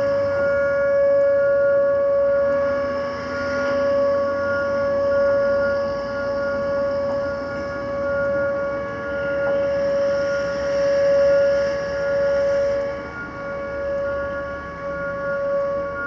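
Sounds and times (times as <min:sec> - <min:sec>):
outdoor warning siren steady tone: 0:00.0 - 0:16.0.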